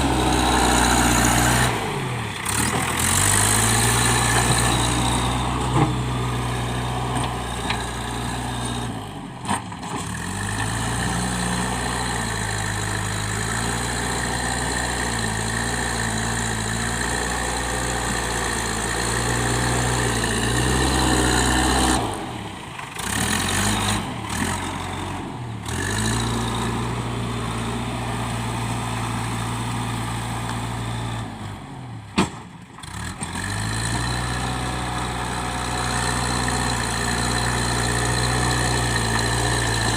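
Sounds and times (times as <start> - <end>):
diesel engine running: 0.0 - 32.1, 32.8 - 39.9.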